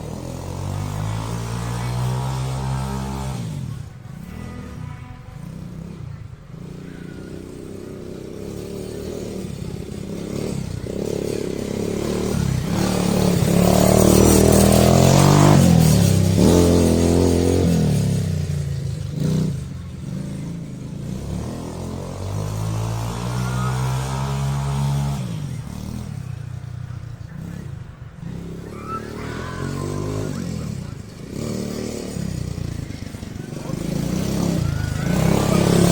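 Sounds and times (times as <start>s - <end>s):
quad bike engine revving: 0.0s - 35.9s.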